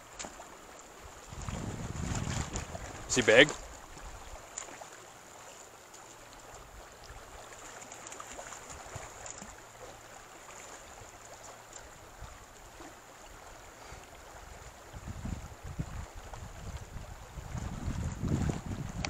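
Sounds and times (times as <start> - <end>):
river water running: 0.0 - 19.0.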